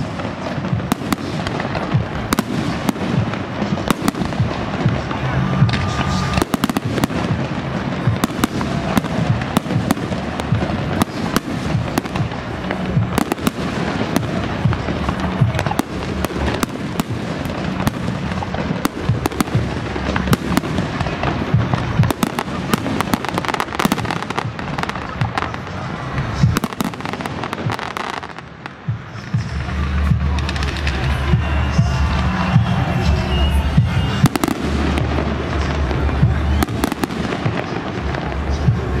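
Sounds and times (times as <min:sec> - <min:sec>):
deep fireworks booms: 0:00.0 - 0:39.0
fireworks bangs and crackles: 0:00.0 - 0:39.0
music playing: 0:00.0 - 0:39.0.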